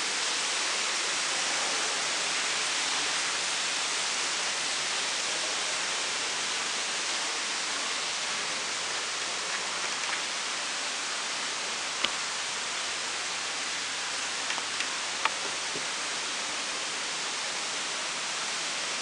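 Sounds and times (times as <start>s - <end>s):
steady rushing hiss: 0.0s - 19.0s.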